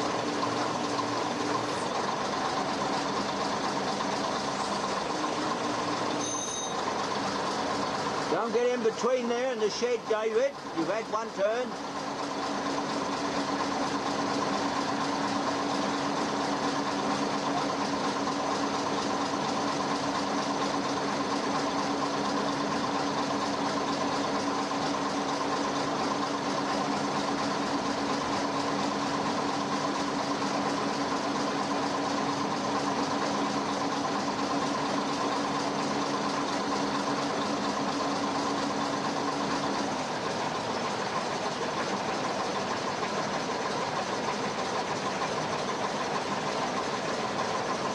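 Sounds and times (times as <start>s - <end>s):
crane engine running steadily: 0.0s - 47.9s.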